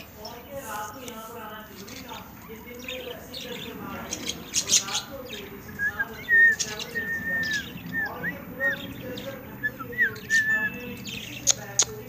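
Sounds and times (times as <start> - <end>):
budgies chirping and whistling: 0.0 - 12.0.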